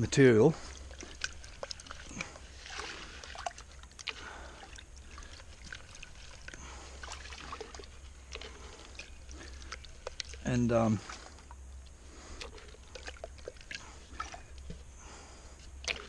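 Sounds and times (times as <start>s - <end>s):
water trickling and pouring: 0.6s - 14.9s, 15.8s - 16.0s.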